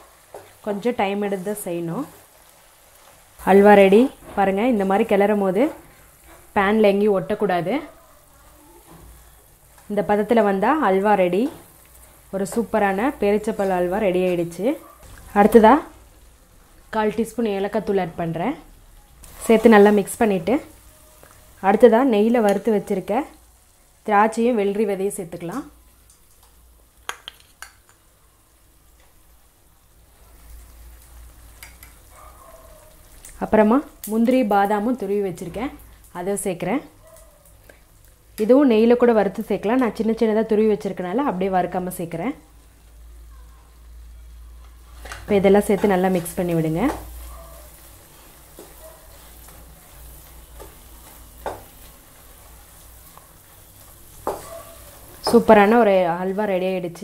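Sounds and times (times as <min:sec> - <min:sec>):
faint sizzling: 0:00.0 - 0:57.0.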